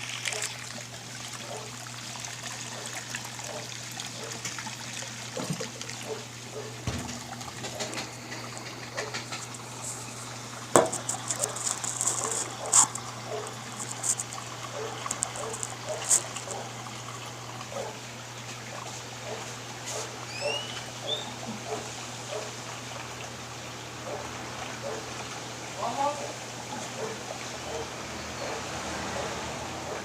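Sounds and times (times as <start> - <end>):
water sloshing in washing machine: 0.0 - 30.0.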